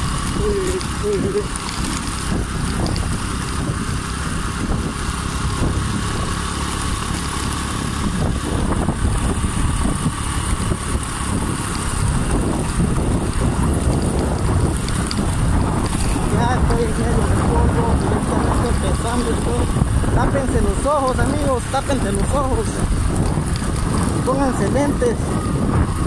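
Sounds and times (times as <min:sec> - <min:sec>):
motorcycle engine: 0:00.0 - 0:26.0
wind on microphone: 0:00.0 - 0:26.0.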